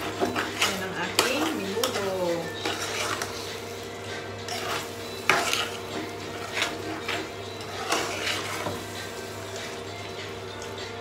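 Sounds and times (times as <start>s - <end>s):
metal spatula scraping pot: 0.0s - 9.8s.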